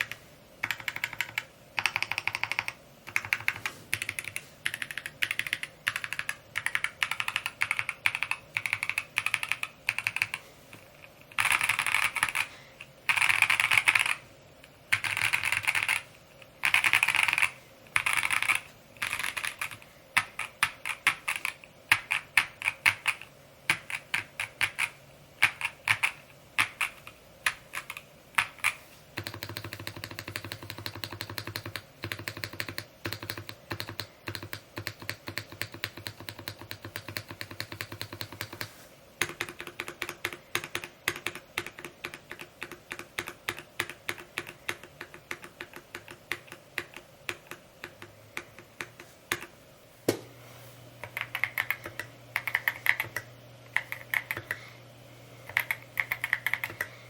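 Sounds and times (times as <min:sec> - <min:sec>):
mechanical keyboard typing: 0:00.0 - 0:12.5, 0:13.1 - 0:14.2, 0:14.9 - 0:49.5, 0:51.0 - 0:54.6, 0:55.5 - 0:56.9.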